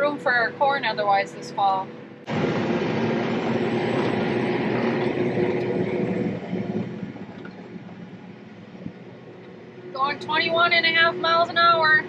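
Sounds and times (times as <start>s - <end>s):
tractor engine running hard: 2.2s - 12.0s.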